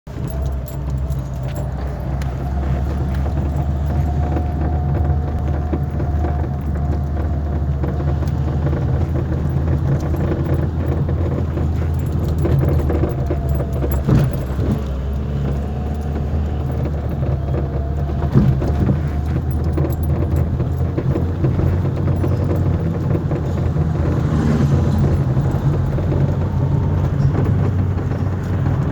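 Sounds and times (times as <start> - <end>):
low engine hum: 0.0 - 28.9
light jingling rattle: 0.1 - 28.9.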